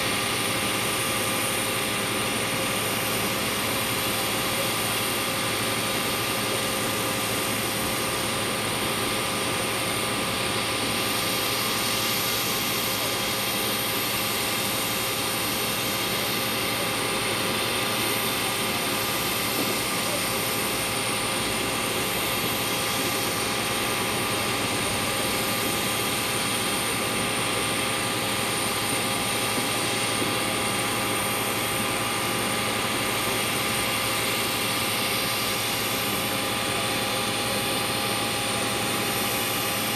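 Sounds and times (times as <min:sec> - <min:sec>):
jet turbine rushing and whining: 0:00.0 - 0:39.9.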